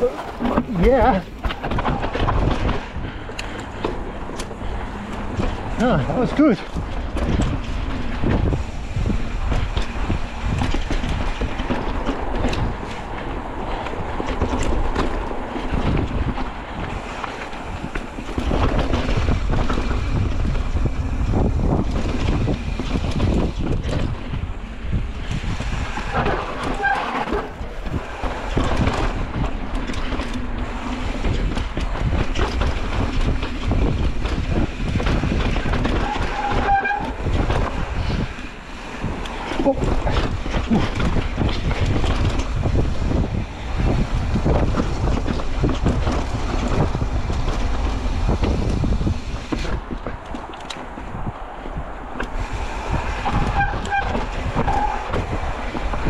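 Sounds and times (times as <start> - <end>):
bike rattling: 0.0 - 56.0
bike tyres rumbling over dirt: 0.0 - 56.0.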